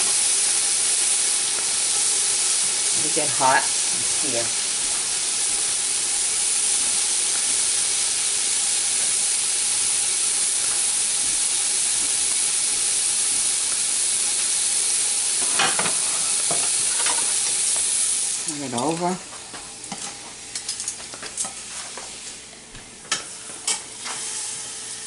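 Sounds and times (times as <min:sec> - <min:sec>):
meat sizzling in oil: 0:00.0 - 0:22.5, 0:23.1 - 0:25.0.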